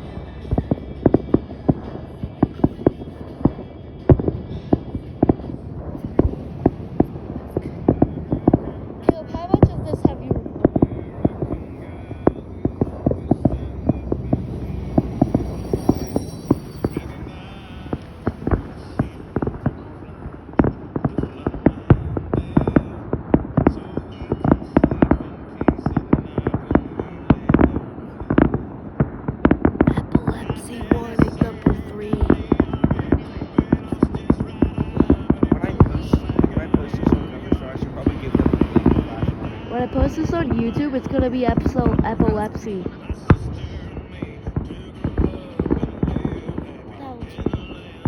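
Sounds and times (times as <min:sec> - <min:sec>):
low rumble: 0:00.0 - 0:46.8
fireworks bangs: 0:00.0 - 0:48.0.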